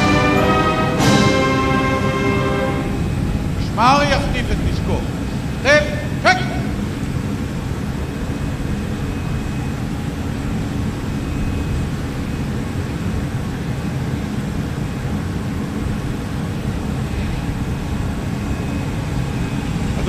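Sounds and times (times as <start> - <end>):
jet aircraft engine rush: 0.0 - 20.0.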